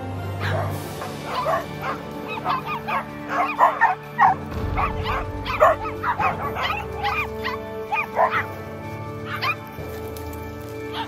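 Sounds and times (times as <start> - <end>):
background music: 0.0 - 11.0
small dogs yipping and barking: 0.3 - 8.6, 9.2 - 9.8.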